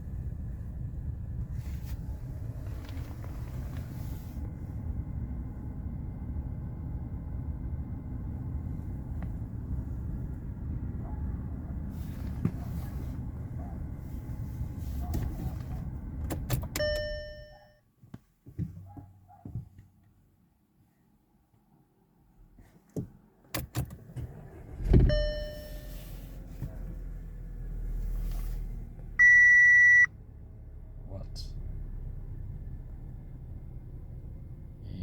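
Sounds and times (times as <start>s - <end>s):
car engine idling: 0.0s - 17.6s, 23.6s - 35.0s.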